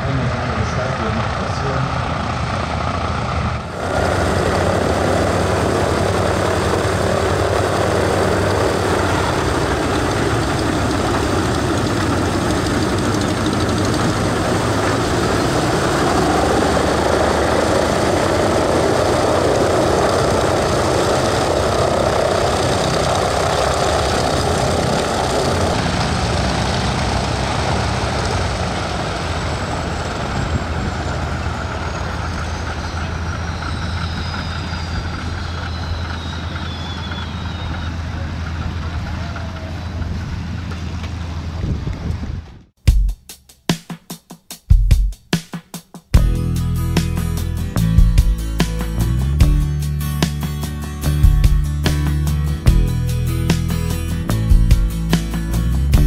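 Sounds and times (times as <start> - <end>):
radial aircraft engines running: 0.0 - 42.7, 46.2 - 56.0.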